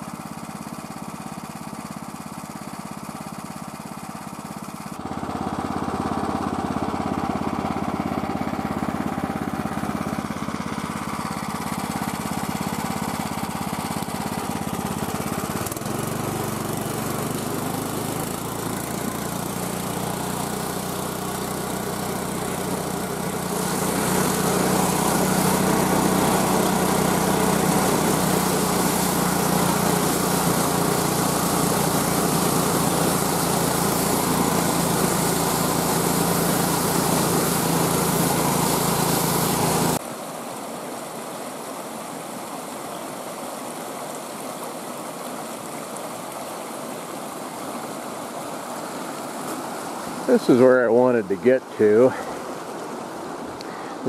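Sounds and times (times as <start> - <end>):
small gas engine running: 0.0 - 54.0
creek rushing: 2.4 - 54.0.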